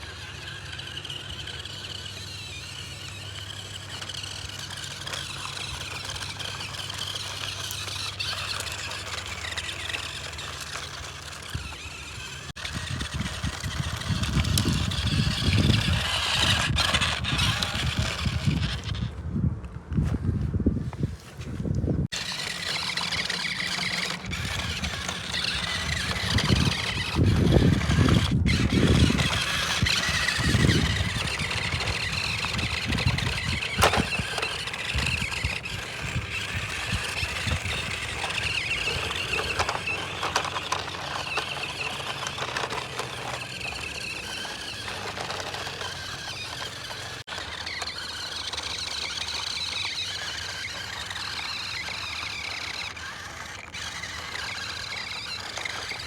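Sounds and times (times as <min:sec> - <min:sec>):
toy motor whining: 0:00.0 - 0:19.2, 0:22.1 - 0:56.0.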